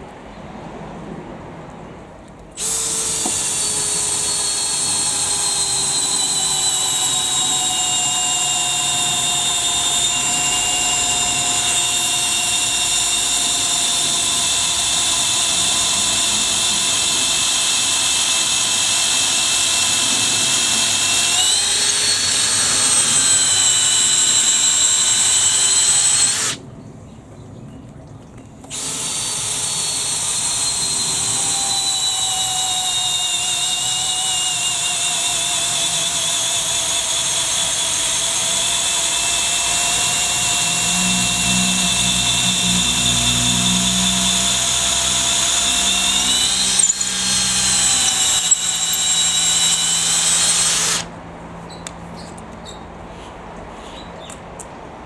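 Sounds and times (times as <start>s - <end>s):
drill motor whining into wood: 2.5s - 26.6s, 28.7s - 51.1s.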